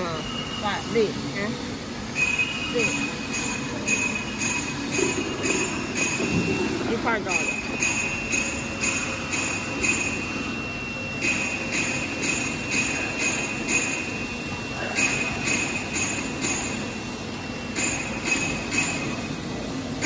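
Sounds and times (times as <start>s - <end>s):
low machine hum: 0.0s - 20.0s
steady high tone: 0.0s - 20.0s.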